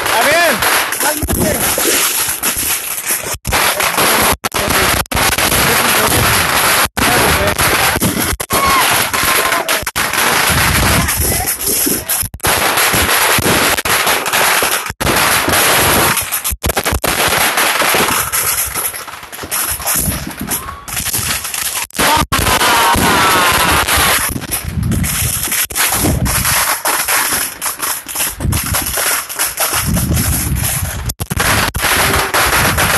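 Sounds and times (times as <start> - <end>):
aerial shells bursting: 0.0 - 32.9
fireworks banging and crackling: 0.0 - 32.9.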